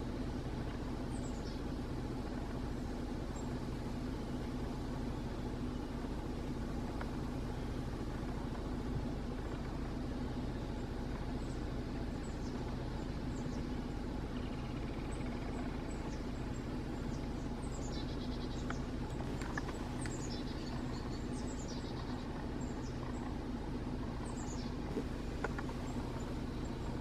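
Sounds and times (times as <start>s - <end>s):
small songbirds chirping: 0.0s - 27.0s
steady low rumble: 0.0s - 27.0s.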